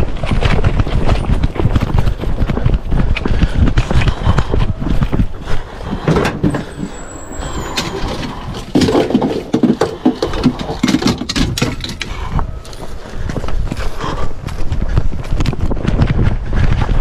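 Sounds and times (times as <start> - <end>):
hurried footsteps on concrete: 0.0 - 7.0, 8.2 - 17.0.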